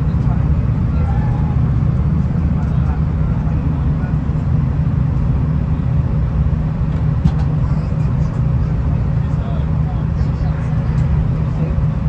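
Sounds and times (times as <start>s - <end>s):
diesel railcar rumble: 0.0s - 12.0s.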